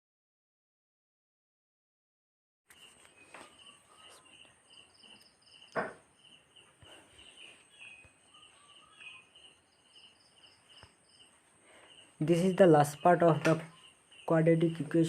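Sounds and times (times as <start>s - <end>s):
insects chirping: 2.8s - 15.0s.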